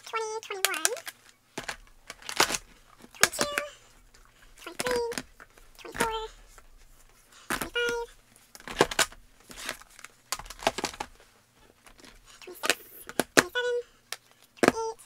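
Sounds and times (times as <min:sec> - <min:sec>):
plastic cases clacking on table: 0:00.8 - 0:06.7, 0:07.5 - 0:11.2, 0:11.8 - 0:14.8.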